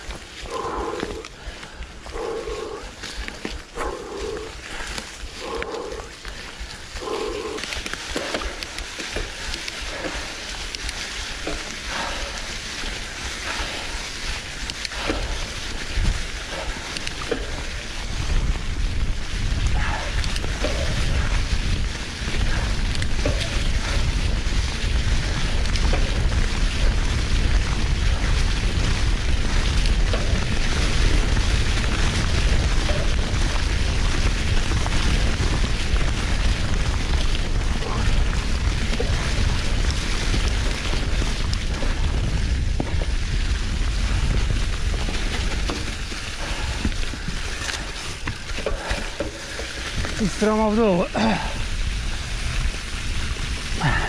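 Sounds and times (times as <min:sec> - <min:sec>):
bike crackling and knocking: 0:00.0 - 0:54.0
bike tyres rolling over dry leaves: 0:00.0 - 0:54.0
wind rumble on microphone: 0:00.0 - 0:54.0.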